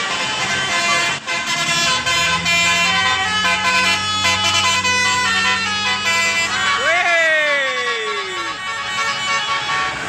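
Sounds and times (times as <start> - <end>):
bus horn sliding down in pitch: 0.0 - 10.0.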